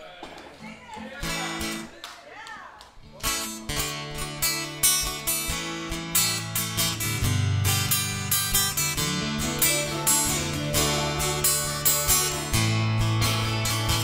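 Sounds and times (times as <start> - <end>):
acoustic guitar strumming: 0.9 - 1.9, 3.2 - 14.0.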